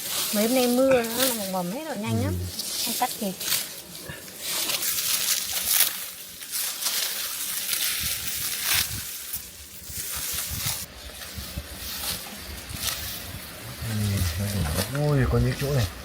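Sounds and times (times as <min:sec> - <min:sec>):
rice stalks rustling and crunching: 0:00.0 - 0:16.0.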